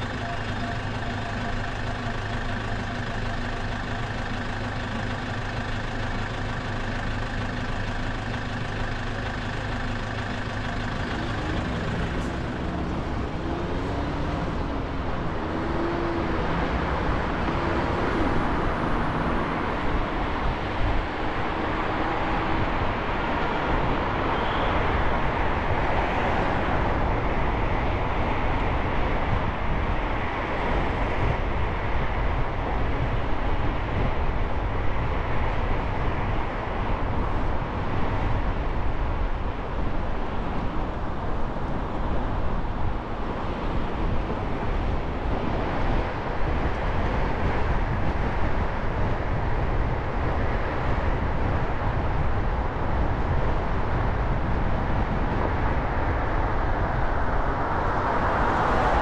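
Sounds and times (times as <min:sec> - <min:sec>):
car engine hum: 0:00.0 - 0:59.0
road and tyre noise: 0:00.0 - 0:59.0.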